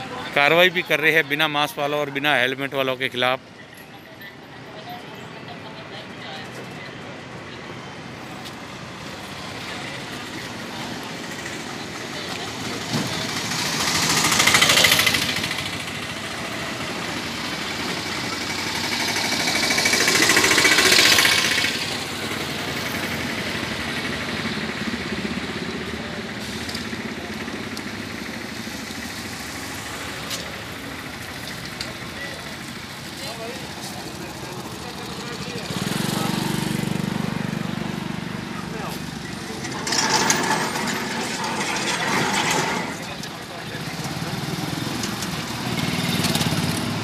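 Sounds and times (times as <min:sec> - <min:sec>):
engine and tyre noise: 0:00.0 - 0:47.0
vehicles passing close by: 0:00.0 - 0:47.0.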